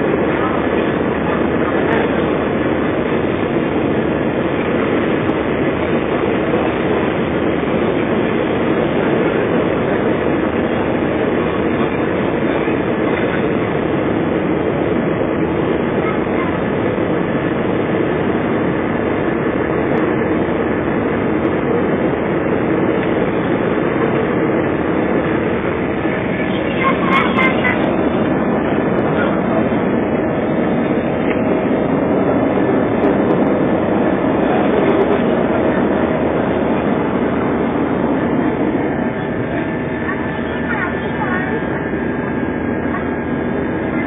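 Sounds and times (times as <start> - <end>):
jet engine cabin rumble: 0.0 - 44.0.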